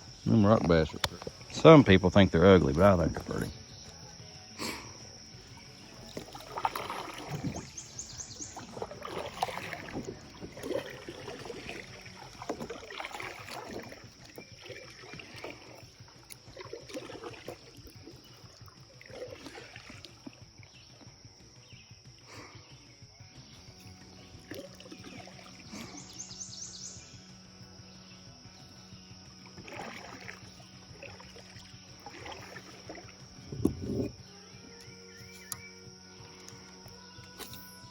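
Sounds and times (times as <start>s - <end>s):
kayak paddle strokes in water: 0.0s - 37.9s.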